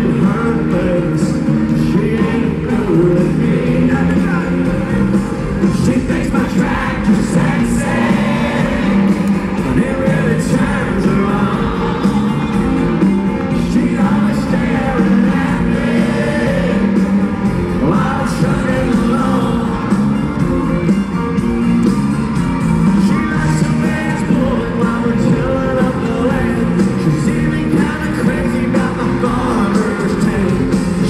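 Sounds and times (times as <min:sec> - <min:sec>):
man singing: 0:00.0 - 0:20.7, 0:22.9 - 0:31.0
live country band: 0:00.0 - 0:31.0.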